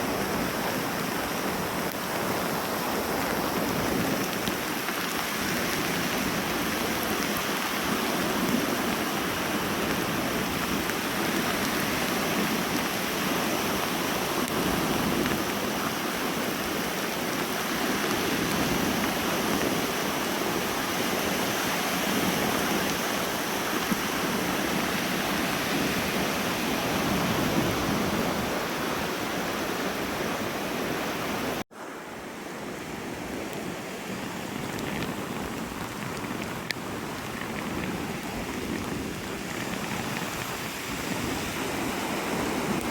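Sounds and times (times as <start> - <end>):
wind buffeting microphone: 0.0 - 31.6, 32.5 - 42.9
rain falling: 0.0 - 42.9
waves breaking: 0.0 - 42.9.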